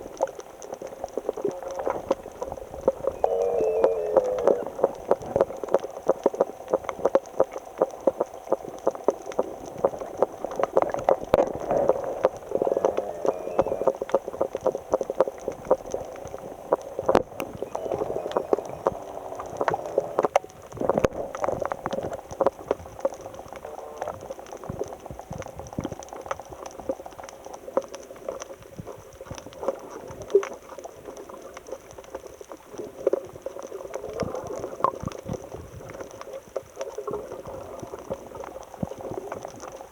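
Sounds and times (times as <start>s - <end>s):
water sloshing and bubbling: 0.0s - 39.9s.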